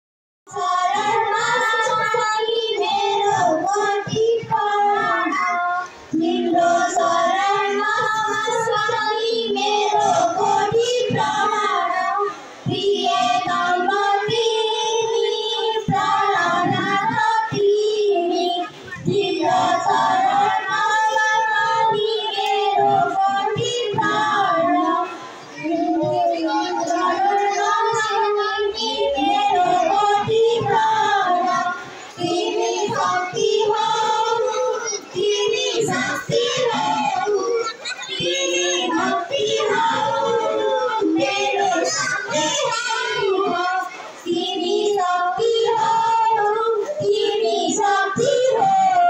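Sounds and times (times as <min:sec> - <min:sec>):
children singing into microphones: 0:00.5 - 0:49.0.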